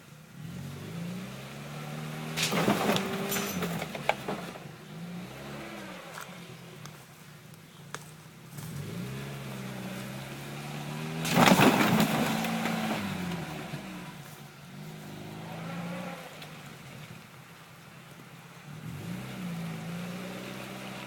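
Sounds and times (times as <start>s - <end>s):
car engine revving: 0.1s - 7.0s, 8.5s - 21.0s.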